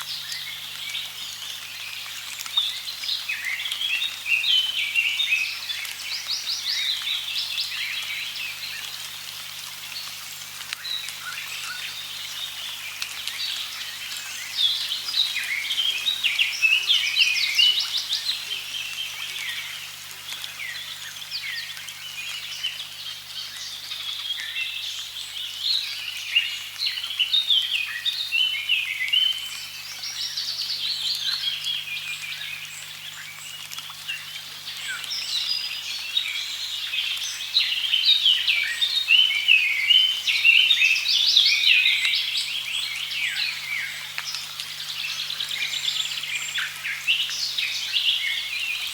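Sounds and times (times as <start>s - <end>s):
small birds singing: 0.0s - 48.9s.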